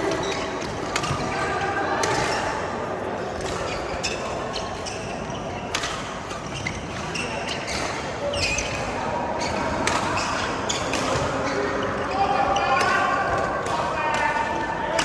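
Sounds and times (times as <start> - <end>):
sneaker squeaks on court floor: 0.0 - 2.7, 3.4 - 13.1
voices chattering: 0.0 - 5.8, 6.5 - 15.0
racket hitting shuttlecock: 0.0 - 11.8, 12.8 - 15.0.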